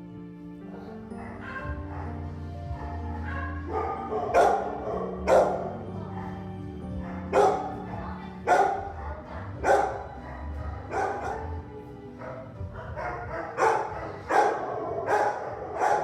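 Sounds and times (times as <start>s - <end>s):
background music: 0.0s - 16.0s
dog barking: 0.7s - 16.0s.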